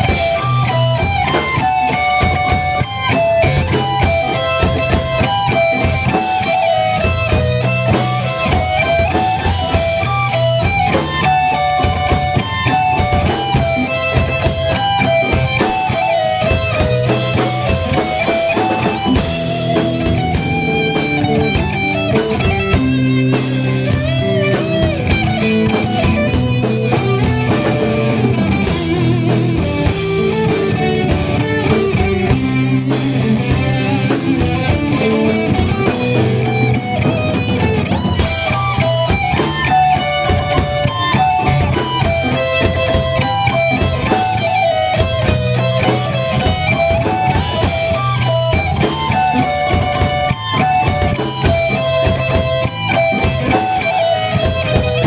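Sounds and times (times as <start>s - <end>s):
drum kit: 0.0s - 55.0s
thrash metal band playing: 0.0s - 55.0s.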